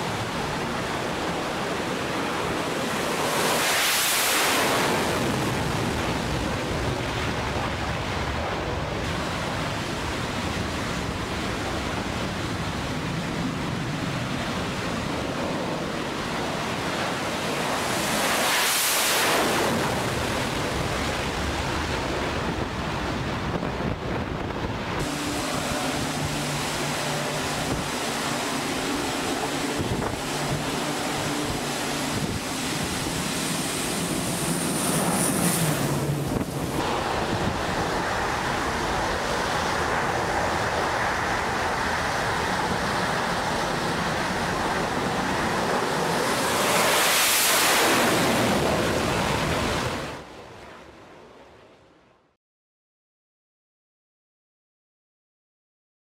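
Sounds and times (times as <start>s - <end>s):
jet engines roaring: 0.0s - 50.3s
turboprop propellers droning: 0.0s - 50.3s.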